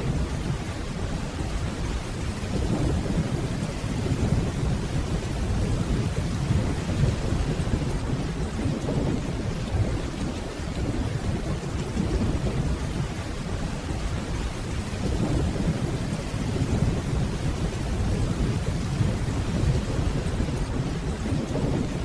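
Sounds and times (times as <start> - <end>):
distant thunder rumble: 0.0 - 22.0
steady rainfall: 0.0 - 22.0.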